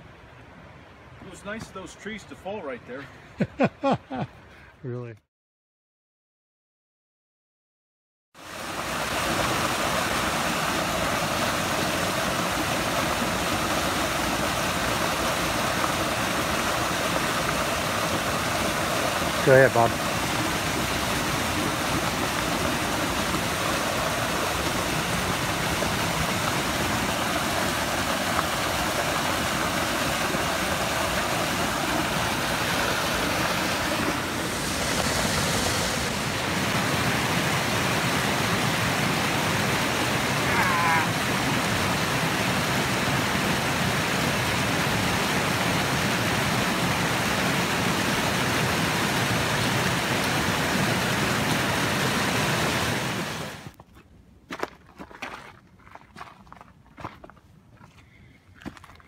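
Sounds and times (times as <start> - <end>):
mountain creek rushing: 0.0 - 3.2, 8.4 - 53.8.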